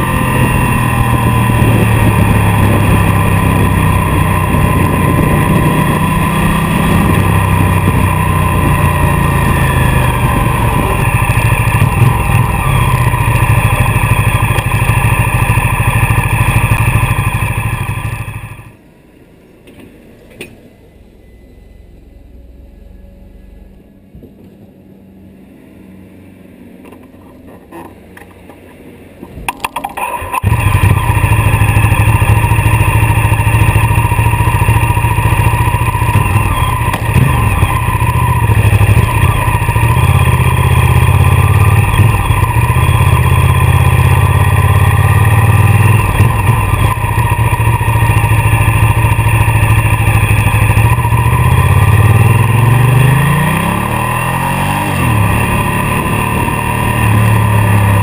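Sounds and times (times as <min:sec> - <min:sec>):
motorcycle engine starting and idling: 0:00.0 - 0:18.8, 0:26.8 - 0:58.0
motorcycle revving and pulling away: 0:00.0 - 0:18.8, 0:29.6 - 0:58.0.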